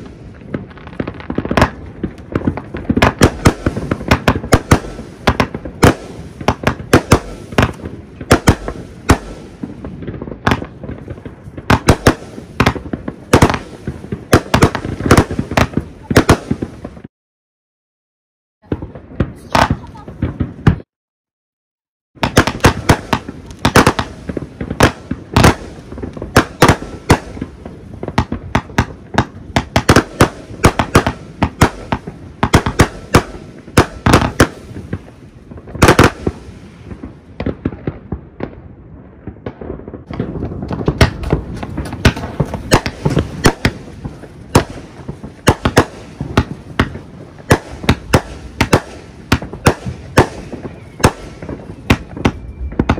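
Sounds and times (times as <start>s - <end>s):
fireworks bangs and crackles: 0.0s - 17.1s, 18.6s - 20.9s, 22.2s - 52.9s.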